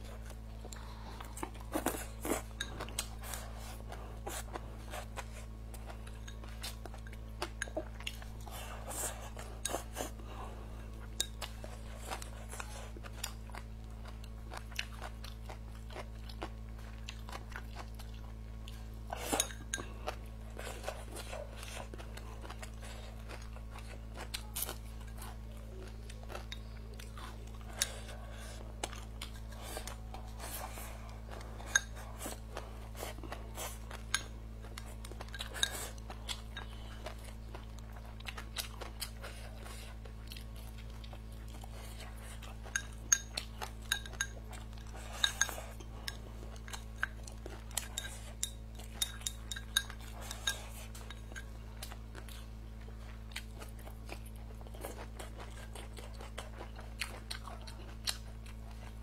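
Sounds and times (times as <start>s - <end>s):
chewing and crunching: 0.0s - 59.0s
steady low hum: 0.0s - 59.0s.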